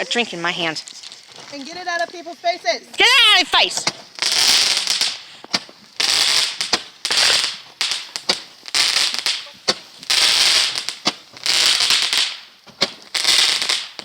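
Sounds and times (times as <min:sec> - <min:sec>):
fireworks hissing bursts: 0:00.0 - 0:14.0
fireworks sharp cracks: 0:00.0 - 0:14.0.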